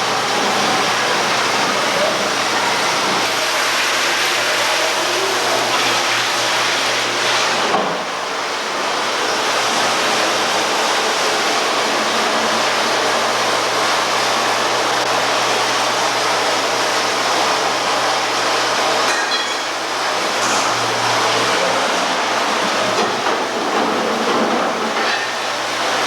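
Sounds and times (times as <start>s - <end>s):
vacuum pump running: 0.0s - 26.0s
water rushing through pipes: 0.0s - 26.0s.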